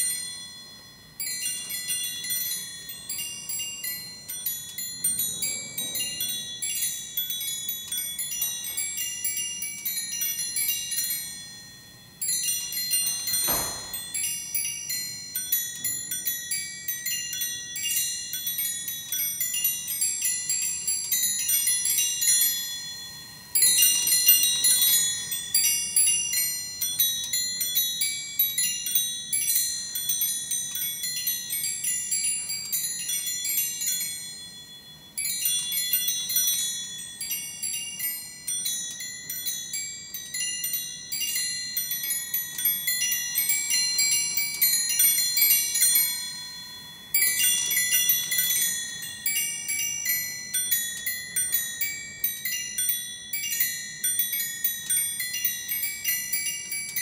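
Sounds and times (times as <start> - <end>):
clock music box tinkling tune: 0.0 - 57.0.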